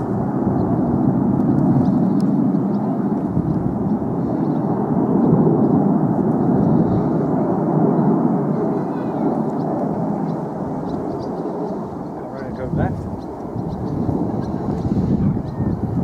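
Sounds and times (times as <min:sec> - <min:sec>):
jet roar: 0:00.0 - 0:16.0.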